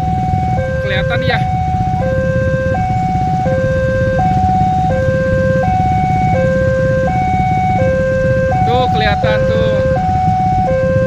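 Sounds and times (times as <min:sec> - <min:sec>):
level crossing alarm two tones: 0:00.0 - 0:11.0
low rumble of engines: 0:00.0 - 0:11.0.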